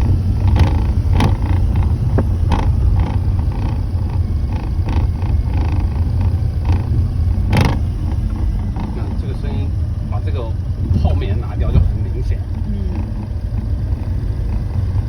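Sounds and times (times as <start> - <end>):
car engine droning: 0.0 - 15.0
rattling clicks: 0.0 - 15.0.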